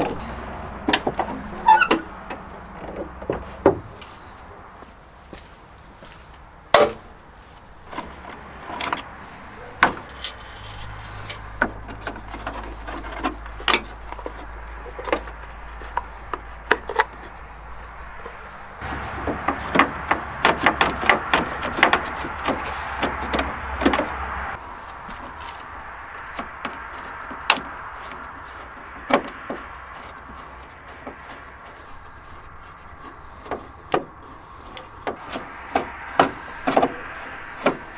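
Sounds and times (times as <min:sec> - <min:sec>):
hand tools clicking and knocking: 0:00.0 - 0:05.4, 0:06.0 - 0:37.9.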